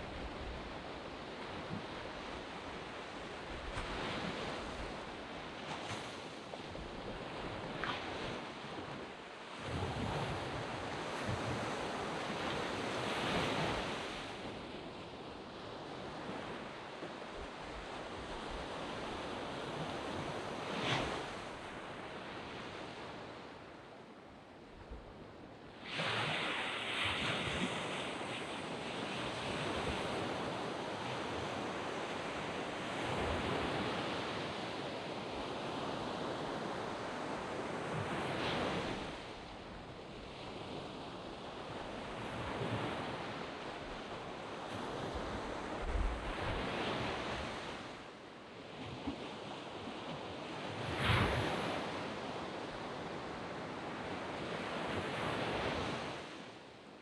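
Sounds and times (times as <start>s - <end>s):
small waves on sandy beach: 0.0s - 57.0s.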